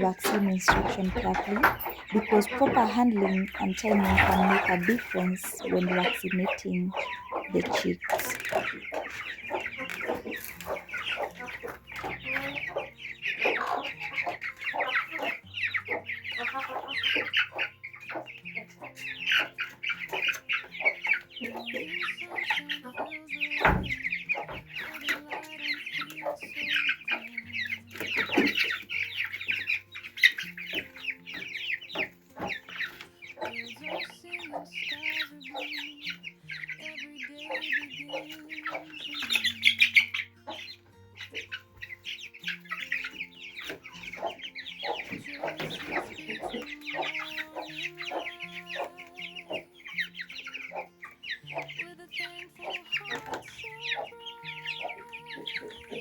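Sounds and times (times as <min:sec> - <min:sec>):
chicks peeping: 0:00.0 - 0:56.0
soft background music: 0:00.0 - 0:56.0.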